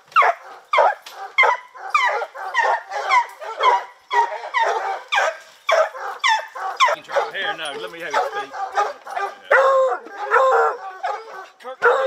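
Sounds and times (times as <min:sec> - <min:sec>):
hounds barking: 0:00.1 - 0:12.0.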